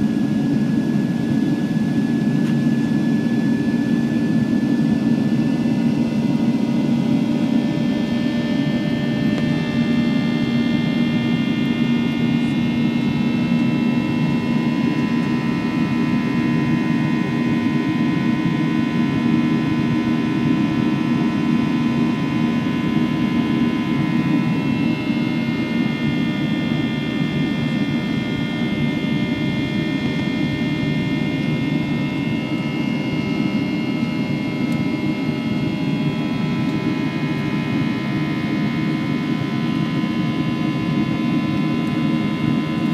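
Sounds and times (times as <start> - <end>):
high fan whine: 0.0 - 42.9
jet engine low roar: 0.0 - 42.9.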